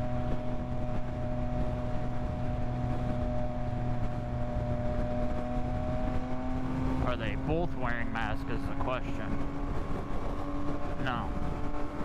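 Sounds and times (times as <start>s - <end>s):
low road rumble: 0.0s - 12.0s
motorcycle engine running: 0.0s - 12.0s.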